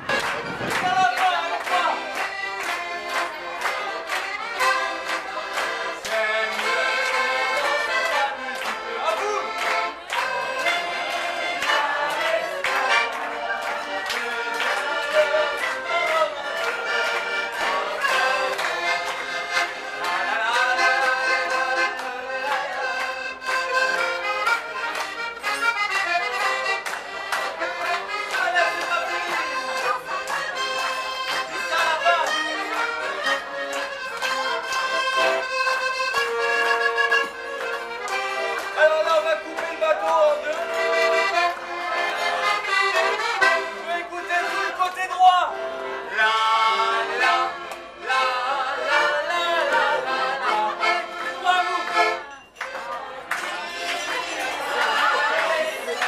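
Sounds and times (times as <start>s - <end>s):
button accordion playing lively tune: 0.0s - 56.0s.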